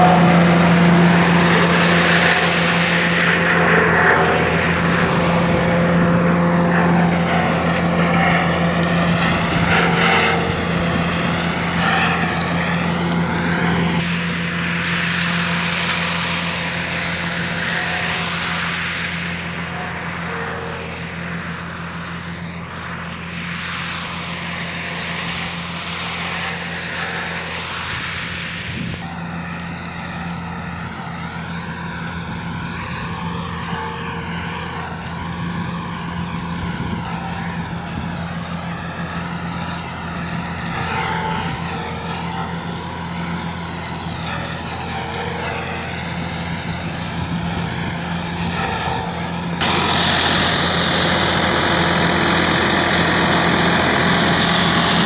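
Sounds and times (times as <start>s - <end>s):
mulcher shredding straw: 0.0s - 55.0s
tractor engine drone: 0.0s - 55.0s.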